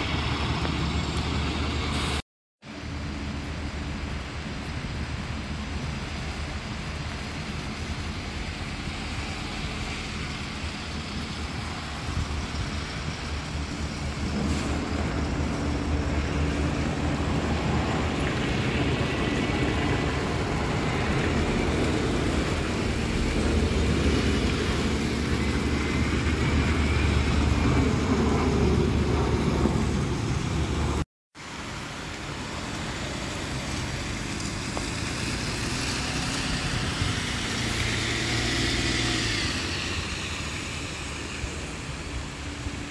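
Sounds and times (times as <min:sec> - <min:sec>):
bus diesel engines running: 0:00.0 - 0:42.9
road noise: 0:00.0 - 0:42.9.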